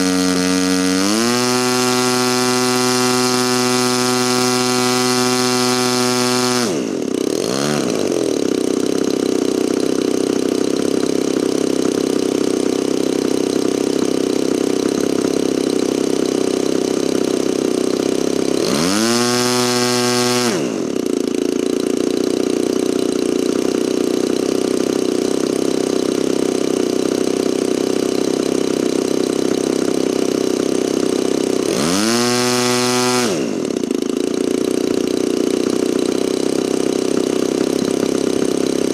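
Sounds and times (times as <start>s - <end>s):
model airplane engine revving: 0.0s - 38.9s.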